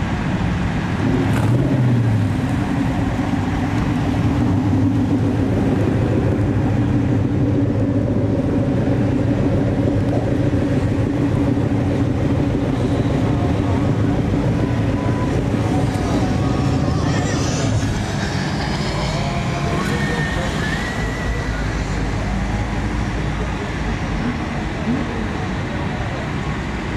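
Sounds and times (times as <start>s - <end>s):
car driving drone: 0.0s - 26.9s.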